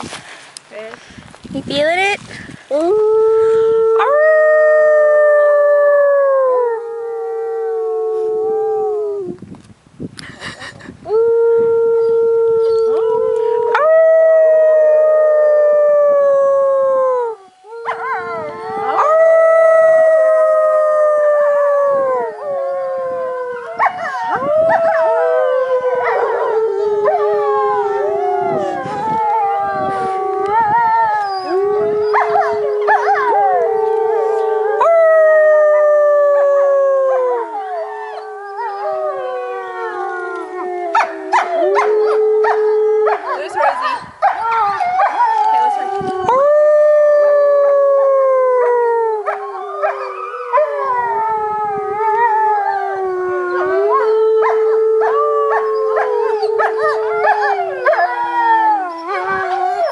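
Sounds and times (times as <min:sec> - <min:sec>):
wolves howling in chorus: 0:11.4 - 0:59.9.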